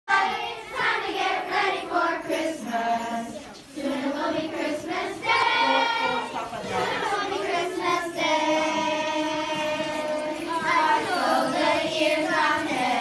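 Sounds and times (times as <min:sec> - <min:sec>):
children singing a carol: 0:00.1 - 0:13.0.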